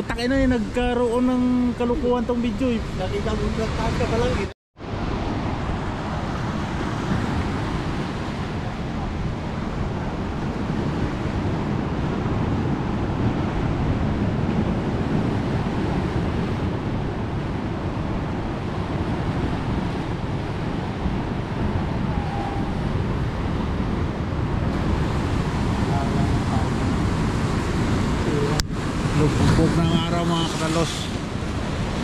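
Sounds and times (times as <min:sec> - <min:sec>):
ocean surf washing over rocks: 0:00.0 - 0:32.0
wind buffeting microphone: 0:00.0 - 0:32.0.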